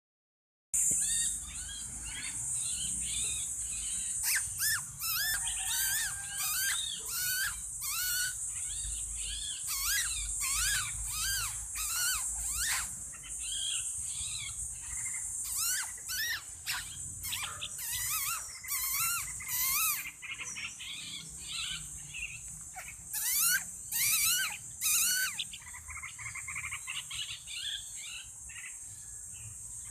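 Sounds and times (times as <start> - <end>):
insect drone: 0.8 - 29.9
small bird chirping and singing: 0.8 - 29.9.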